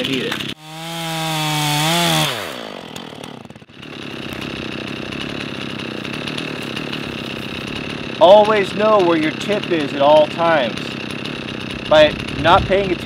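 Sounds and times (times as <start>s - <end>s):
chainsaw revving then idling: 0.0s - 13.0s.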